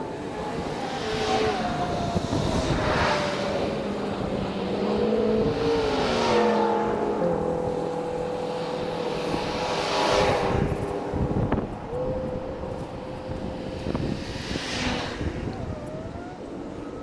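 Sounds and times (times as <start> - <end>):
cars passing by: 0.0 - 17.0.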